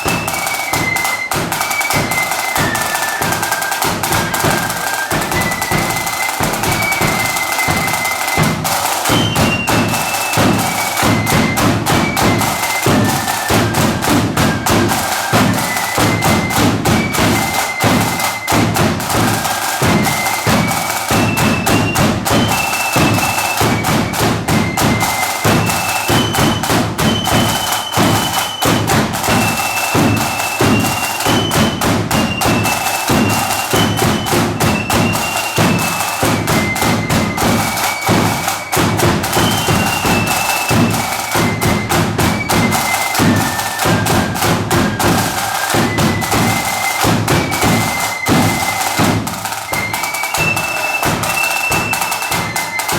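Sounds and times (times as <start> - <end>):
bass drum and snare beat: 0.0 - 52.9
marching band playing: 0.0 - 52.9.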